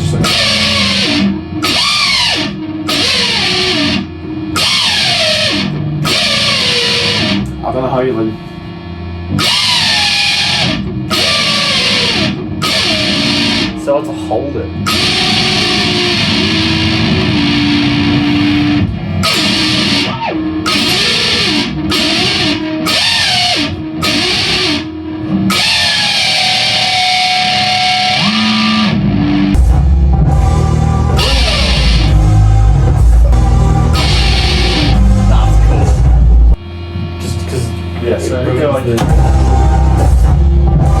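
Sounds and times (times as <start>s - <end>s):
electric guitar rock music: 0.0s - 7.8s, 9.1s - 36.6s
bass and drums: 0.0s - 8.1s, 9.3s - 41.0s.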